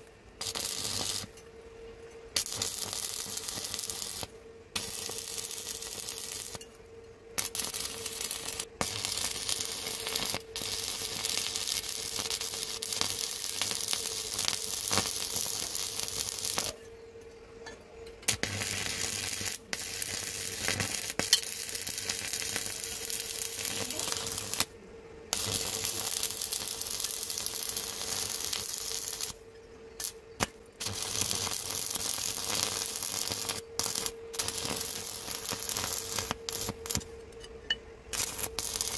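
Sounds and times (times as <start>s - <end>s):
welding arc crackling and sizzling: 0.0s - 1.4s, 2.3s - 6.7s, 7.4s - 16.8s, 18.2s - 29.4s, 30.0s - 37.1s, 38.1s - 38.9s.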